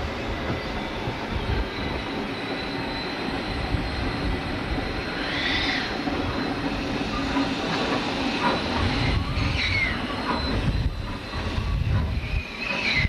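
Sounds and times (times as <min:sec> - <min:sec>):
steam hissing: 0:00.0 - 0:13.0
train rumbling on rails: 0:00.0 - 0:13.0.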